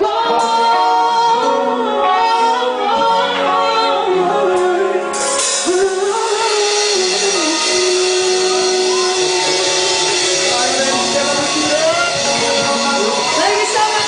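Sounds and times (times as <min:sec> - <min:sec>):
live rock band: 0:00.0 - 0:14.0
woman singing long notes: 0:00.0 - 0:14.0.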